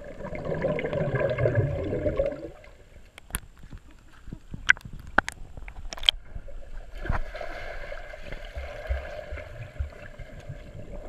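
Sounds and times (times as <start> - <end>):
muffled underwater pool water: 0.0 - 11.0.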